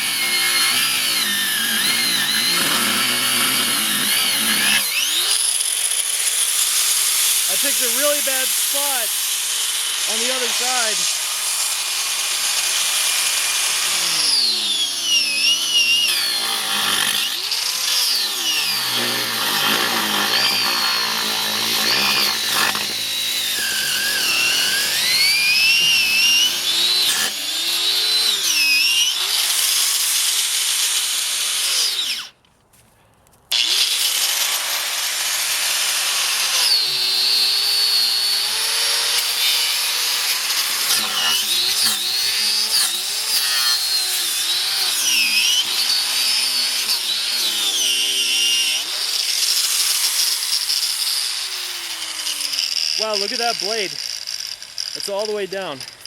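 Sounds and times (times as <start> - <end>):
angle grinder cutting rubber tire: 0.0 - 32.4, 33.5 - 56.0.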